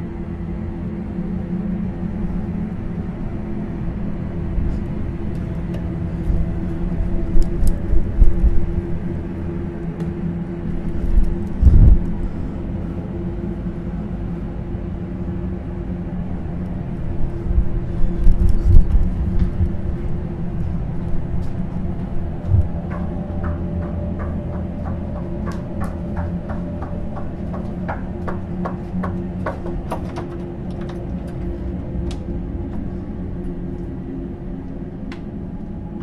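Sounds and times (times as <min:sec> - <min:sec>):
low droning hum: 0:00.0 - 0:36.0.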